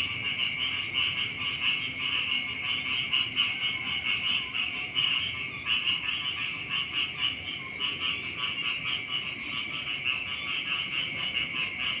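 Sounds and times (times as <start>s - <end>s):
chorus of frogs croaking: 0.0s - 12.0s.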